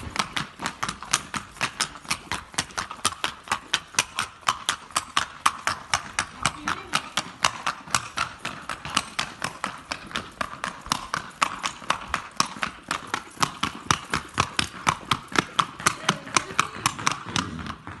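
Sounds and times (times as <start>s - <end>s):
hooves clattering on stone: 0.0s - 18.0s.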